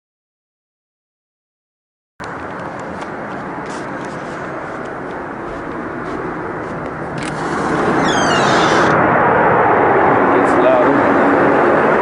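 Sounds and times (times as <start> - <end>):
dense rushing outdoor noise: 2.2 - 12.0.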